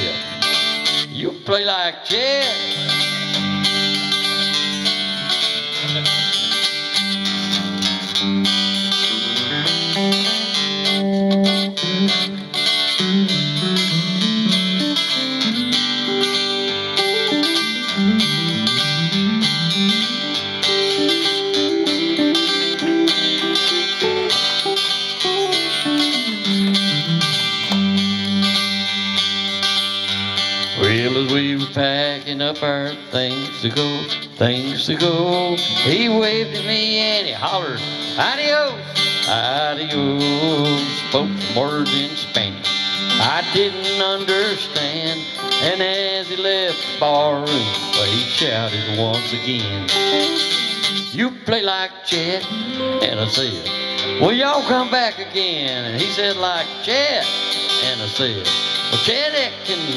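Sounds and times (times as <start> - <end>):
country guitar instrumental: 0.0 - 59.9.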